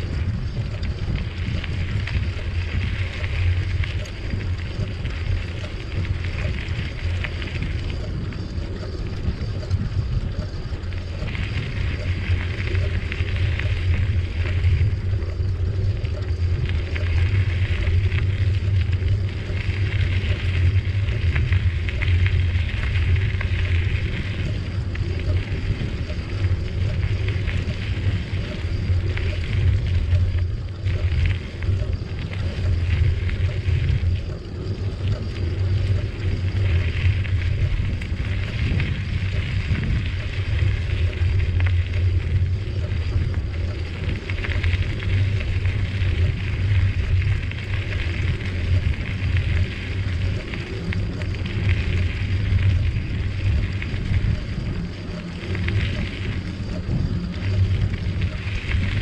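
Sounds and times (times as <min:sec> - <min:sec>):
bicycle tyre noise on trail: 0:00.0 - 0:59.0
wind rumbling over microphone: 0:00.0 - 0:59.0.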